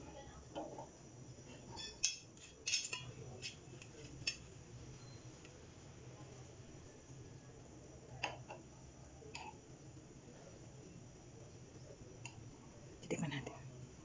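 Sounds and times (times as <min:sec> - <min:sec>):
low steady background hum: 0:00.0 - 0:14.0.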